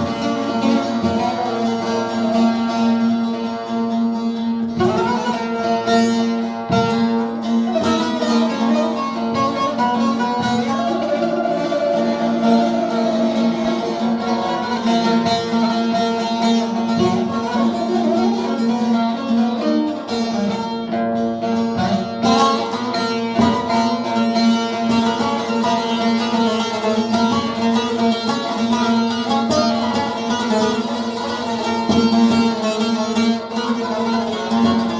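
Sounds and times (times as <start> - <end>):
plucked string melody: 0.0 - 34.9.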